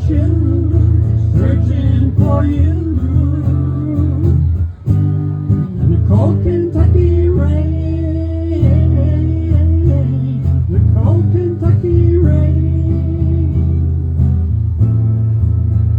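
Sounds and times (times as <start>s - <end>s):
person singing: 0.0s - 14.0s
low accompaniment: 0.0s - 15.9s
strummed acoustic guitar: 0.0s - 15.9s.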